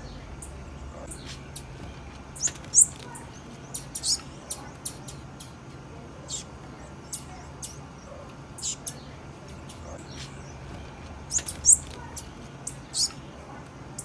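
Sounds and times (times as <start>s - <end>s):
bird chip calls: 0.0s - 14.0s
faint low hum: 0.0s - 14.0s.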